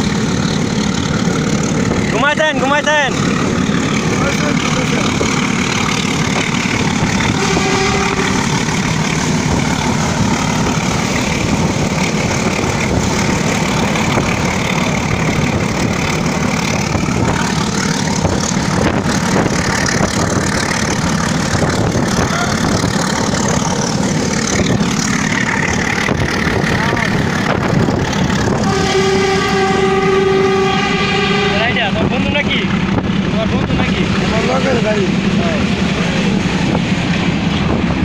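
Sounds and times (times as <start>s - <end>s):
wind rushing on moving train: 0.0s - 38.0s.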